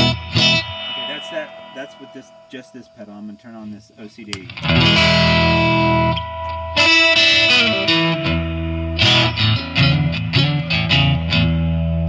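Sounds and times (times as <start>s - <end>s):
distorted electric guitar chords: 0.0s - 3.5s, 4.3s - 12.0s.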